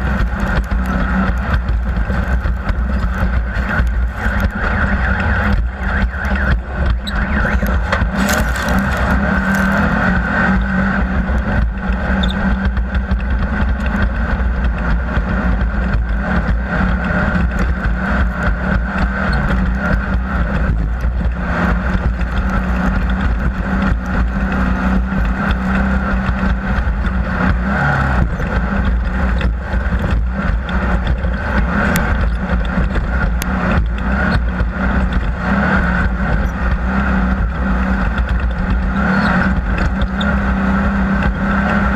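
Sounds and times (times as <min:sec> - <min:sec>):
off-road vehicle engine drone: 0:00.0 - 0:41.9.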